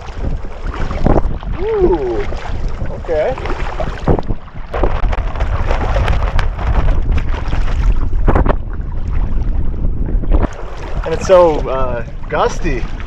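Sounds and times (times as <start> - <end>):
water splashing against kayak: 0.0 - 13.0
wind buffeting microphone: 0.0 - 13.0.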